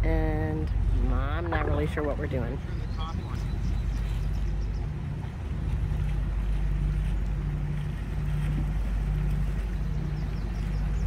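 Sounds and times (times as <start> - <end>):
boat engine running: 0.0 - 11.0
water: 0.0 - 11.0
wind: 0.0 - 11.0.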